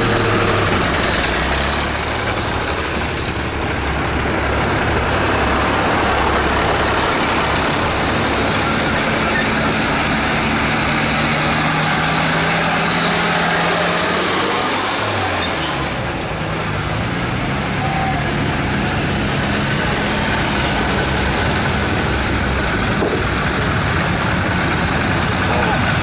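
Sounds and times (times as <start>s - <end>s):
tractor engines idling: 0.0s - 26.0s.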